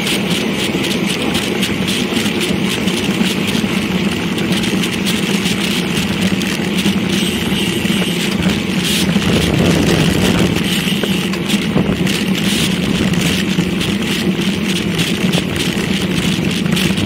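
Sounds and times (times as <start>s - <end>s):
tyres humming on pavement: 0.0s - 17.0s
wind buffeting microphone: 0.0s - 17.0s.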